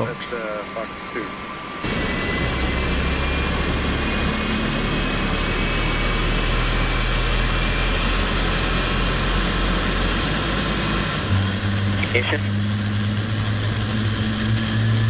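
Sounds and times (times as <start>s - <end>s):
jet engine spooling up: 0.0s - 15.0s.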